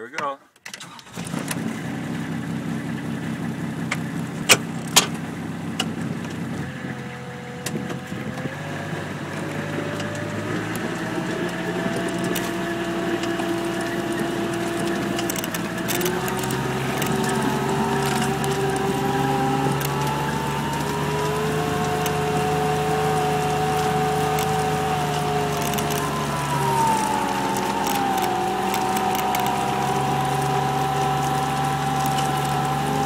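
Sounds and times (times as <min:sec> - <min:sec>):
diesel engine running: 0:00.8 - 0:33.0
rising whine: 0:05.4 - 0:33.0.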